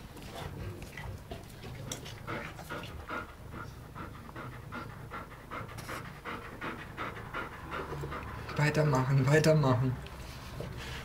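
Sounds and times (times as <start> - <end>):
dog panting: 0.3 - 9.2.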